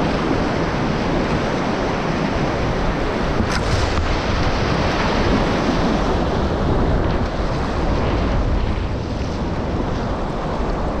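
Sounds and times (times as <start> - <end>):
river rapid rushing water: 0.0 - 11.0.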